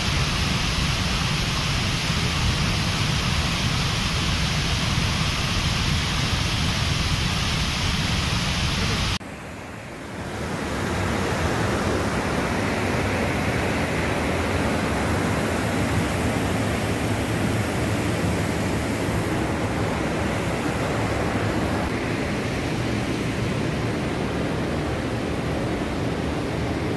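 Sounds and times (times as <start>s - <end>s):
water rushing: 0.0s - 26.7s.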